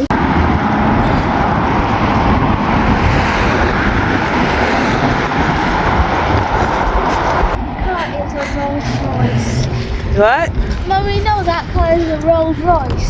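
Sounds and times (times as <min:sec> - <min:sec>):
road traffic: 0:00.0 - 0:13.0
wind rumble on microphone: 0:00.0 - 0:13.0.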